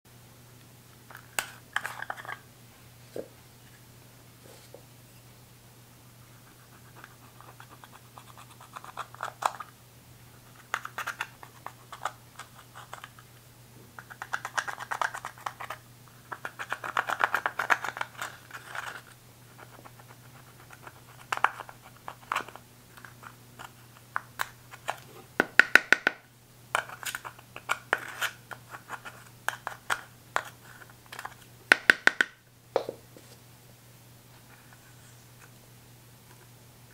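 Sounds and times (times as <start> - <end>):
faint low hum: 0.1 - 36.9.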